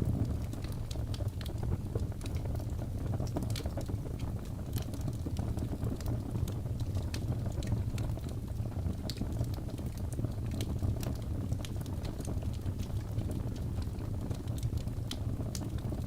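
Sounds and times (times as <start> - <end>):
logs burning and crackling: 0.0 - 16.0.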